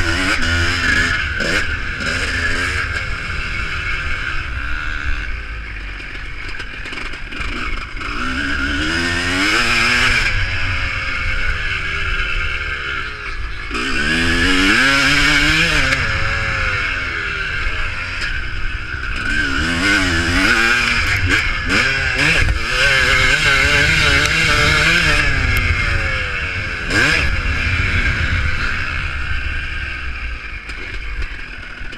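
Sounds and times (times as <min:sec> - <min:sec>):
motorcycle engines revving: 0:00.0 - 0:31.9
steady din of engines: 0:00.0 - 0:31.9.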